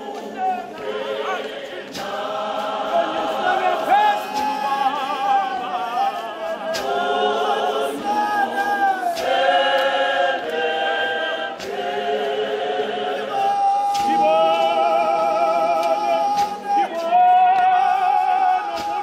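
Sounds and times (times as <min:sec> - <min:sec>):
congregation singing a cappella: 0:00.0 - 0:19.0.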